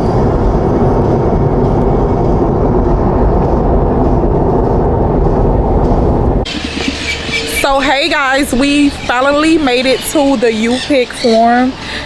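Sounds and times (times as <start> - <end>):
car rumbling on the move: 0.0 - 10.4
road and wind noise: 0.0 - 12.0.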